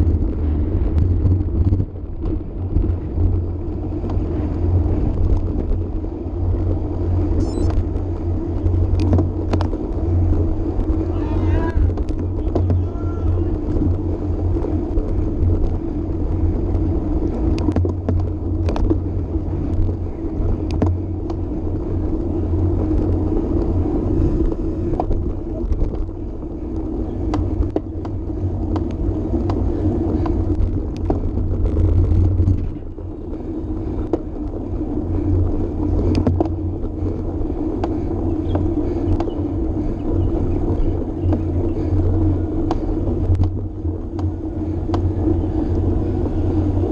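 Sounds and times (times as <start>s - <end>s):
bicycle tyre rumble: 0.0s - 46.9s
wind rushing over microphone: 0.0s - 46.9s.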